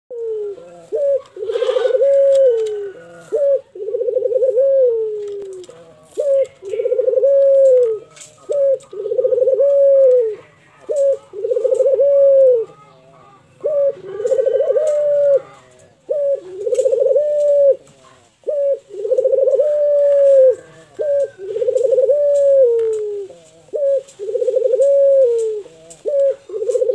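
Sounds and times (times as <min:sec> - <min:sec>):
dove cooing: 0:00.1 - 0:26.9.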